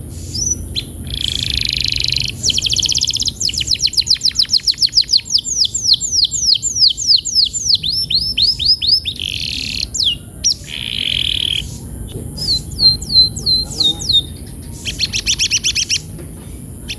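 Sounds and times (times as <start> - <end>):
canary singing: 0.0 - 16.9.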